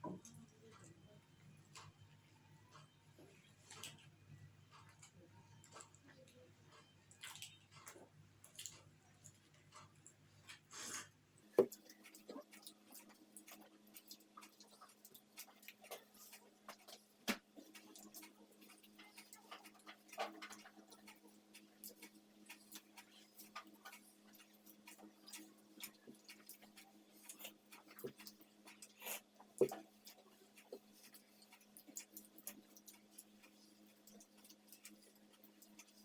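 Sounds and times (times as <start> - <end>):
people chewing food: 0.0 - 36.0.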